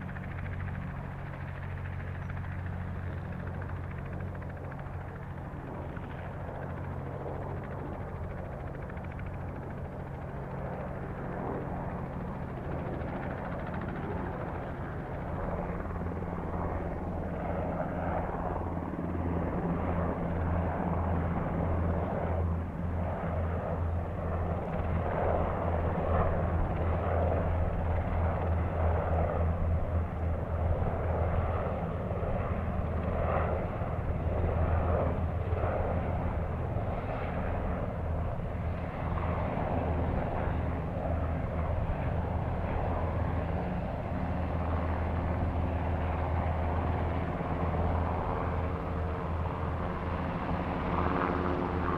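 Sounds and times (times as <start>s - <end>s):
helicopter rotor and turbine: 0.0s - 51.9s.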